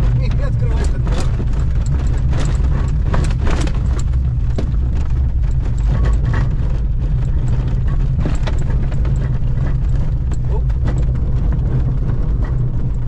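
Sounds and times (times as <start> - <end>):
small clicks and crackles: 0.0 - 13.0
wind buffeting microphone: 0.0 - 13.0.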